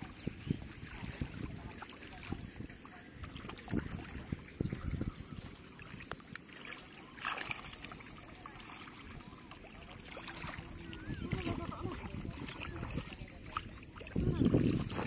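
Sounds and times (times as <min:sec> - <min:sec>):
hands splashing in muddy water: 0:00.0 - 0:15.0.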